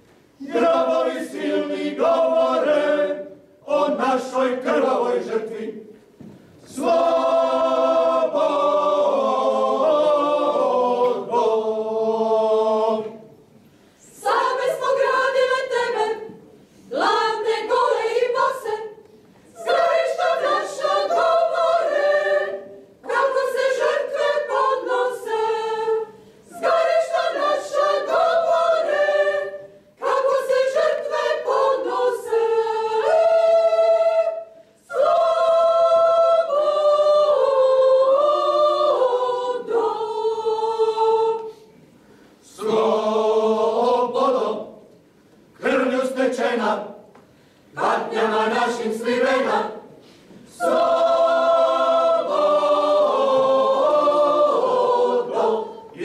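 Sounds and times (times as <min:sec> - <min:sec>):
women's choir singing: 0:00.4 - 0:47.1, 0:47.7 - 0:56.0.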